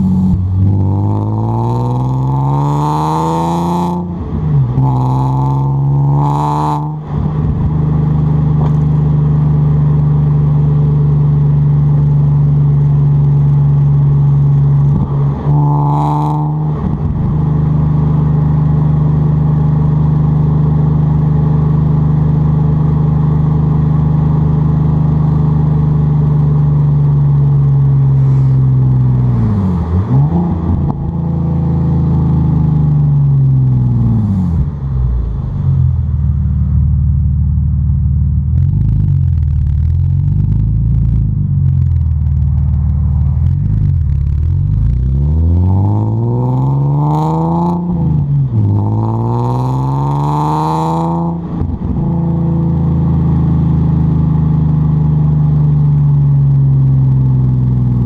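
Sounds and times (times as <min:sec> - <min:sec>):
car exhaust revving and droning: 0:00.0 - 0:58.0.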